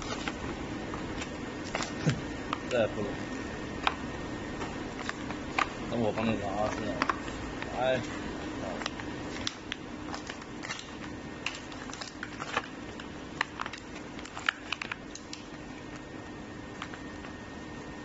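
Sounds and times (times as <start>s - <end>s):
plastic packaging crinkling: 0.0s - 18.0s
steady low hum: 0.0s - 18.0s.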